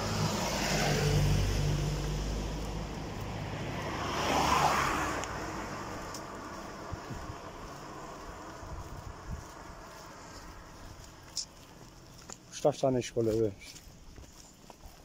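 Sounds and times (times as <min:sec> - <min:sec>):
vehicle passing: 0:00.0 - 0:13.4
vehicle engine hum: 0:00.0 - 0:15.0.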